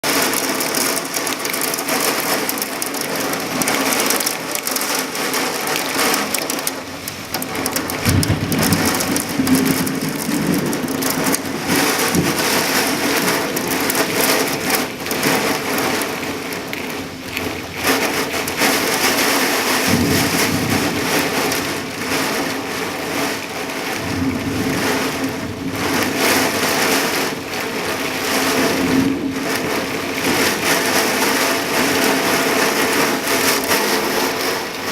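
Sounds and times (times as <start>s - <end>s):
heavy rain: 0.0s - 34.9s
thunder rolling: 1.3s - 17.0s, 17.8s - 34.9s.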